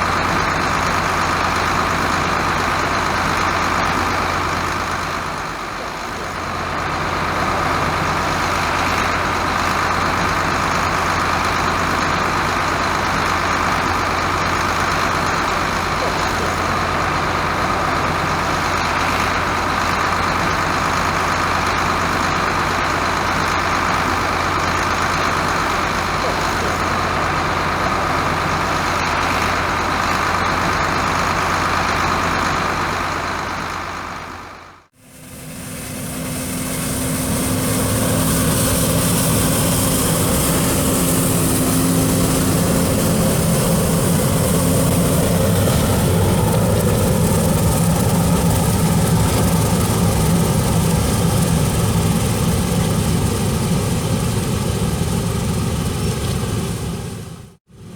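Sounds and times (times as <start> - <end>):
farm machinery engine drone: 0.0 - 57.9.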